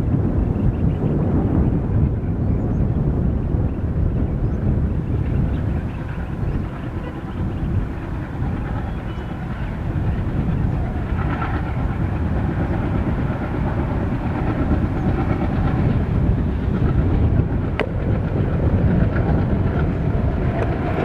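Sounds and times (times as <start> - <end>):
train wheels rumbling on rails: 1.2 - 21.0.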